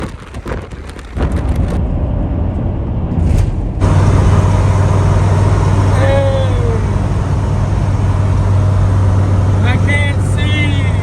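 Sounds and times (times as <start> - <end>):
vehicle engine droning: 1.2 - 11.0.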